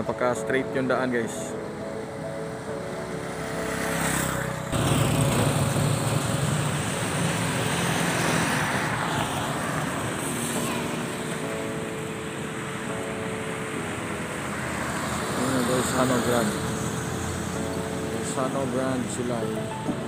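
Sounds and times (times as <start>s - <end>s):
traffic passing: 0.0s - 20.0s
truck engine and road noise: 0.0s - 20.0s.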